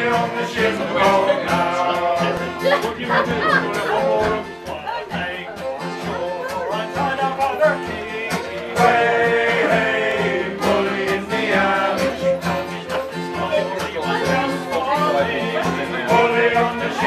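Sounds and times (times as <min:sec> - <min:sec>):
male choir singing: 0:00.0 - 0:17.0
strummed acoustic guitar: 0:00.0 - 0:17.0.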